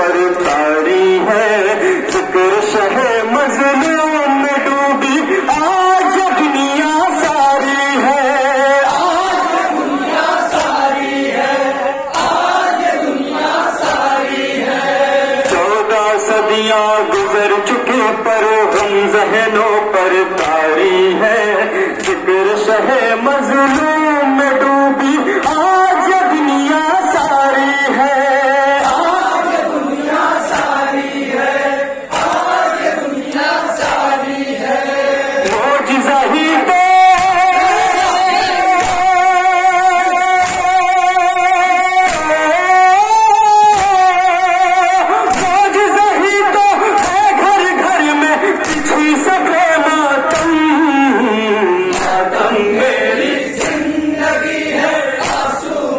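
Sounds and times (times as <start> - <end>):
men chanting in unison: 0.0 - 55.9
palms slapping chests: 0.1 - 49.6, 50.2 - 55.9.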